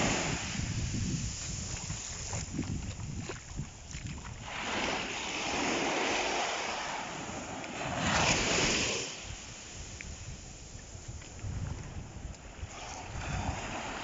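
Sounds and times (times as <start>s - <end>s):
sea waves washing on sand: 0.0s - 14.0s.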